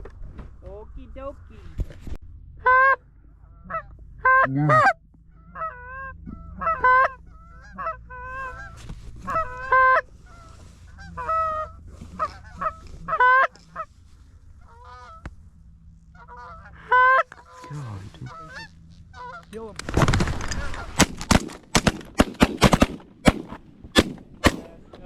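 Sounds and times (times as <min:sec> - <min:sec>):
low steady rumble: 0:00.0 - 0:25.0
geese honking and clucking: 0:02.6 - 0:23.4.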